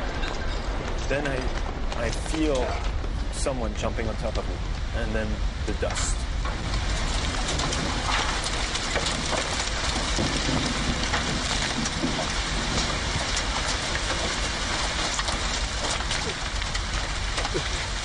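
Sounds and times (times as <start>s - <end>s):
debris raining down: 0.0s - 18.0s
low rumble: 0.0s - 18.0s.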